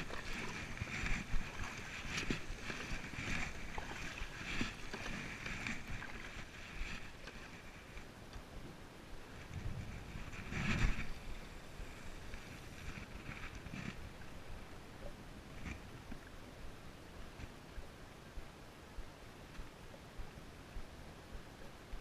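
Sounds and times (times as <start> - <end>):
water splashing around kayak: 0.0 - 17.9.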